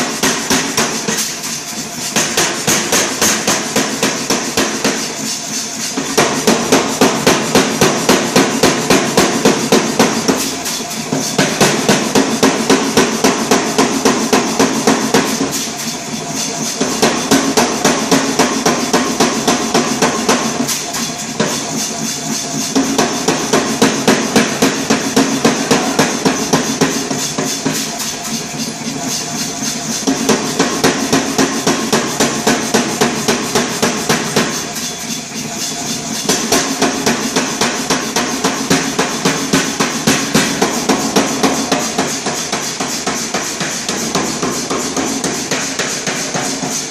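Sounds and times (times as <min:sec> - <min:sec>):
air hammer striking hot steel: 0:00.0 - 0:46.9.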